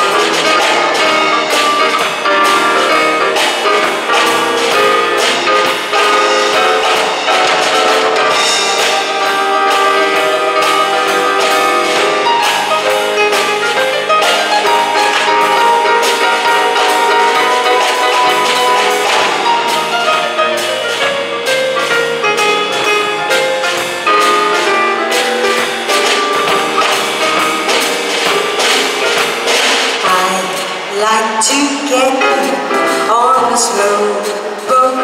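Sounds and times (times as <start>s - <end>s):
saxophone melody: 0.0s - 29.6s
drum beat: 0.0s - 31.2s
jazz band playing: 0.0s - 35.0s.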